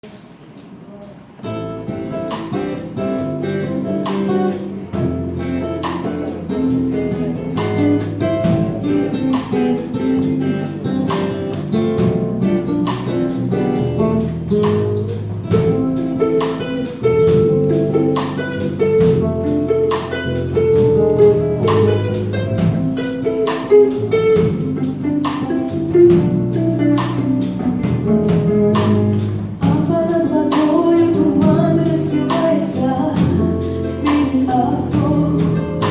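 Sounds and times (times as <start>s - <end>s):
drum kit steady beat: 0.0s - 35.9s
electric and acoustic guitars: 0.0s - 35.9s
bass guitar: 1.4s - 35.9s.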